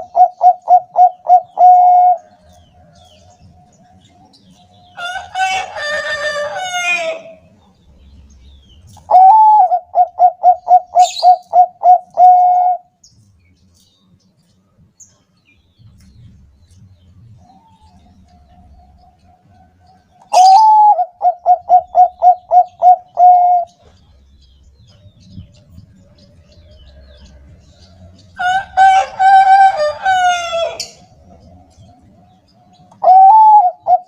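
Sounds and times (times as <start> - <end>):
doves cooing: 0.0 - 13.0, 17.4 - 34.0.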